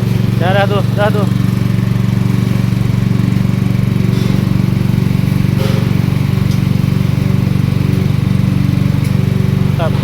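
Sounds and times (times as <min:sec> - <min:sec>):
small engine running steadily: 0:00.0 - 0:10.0.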